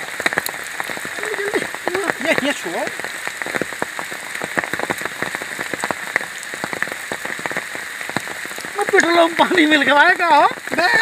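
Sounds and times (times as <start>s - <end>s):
rain drops ticking: 0.0s - 11.0s.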